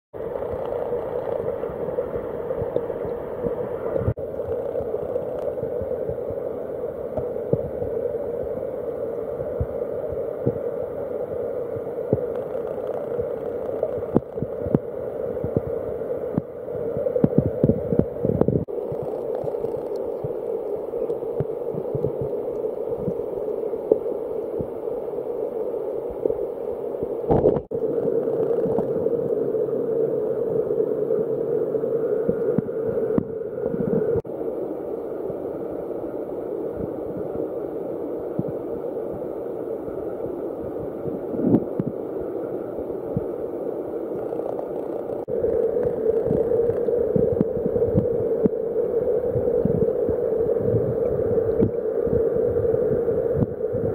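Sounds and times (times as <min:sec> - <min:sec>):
muffled underwater stream rush: 0:00.2 - 0:53.9.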